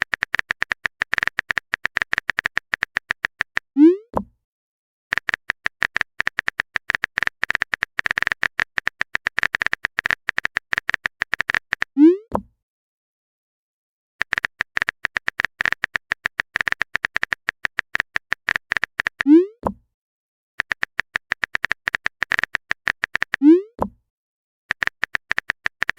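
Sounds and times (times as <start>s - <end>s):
phone keyboard typing clicks: 0.0s - 4.3s, 5.1s - 11.9s, 14.2s - 19.8s, 20.6s - 24.0s, 24.7s - 25.9s.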